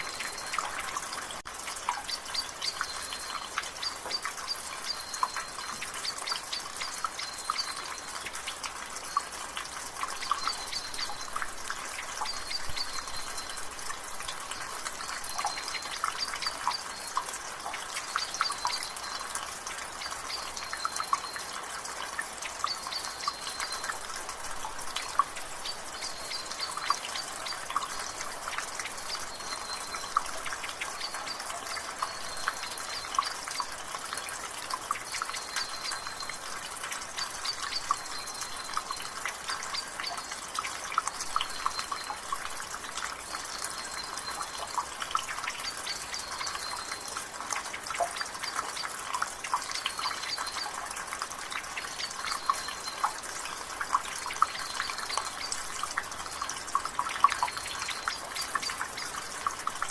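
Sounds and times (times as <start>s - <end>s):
water dripping from gutter: 0.0s - 59.9s.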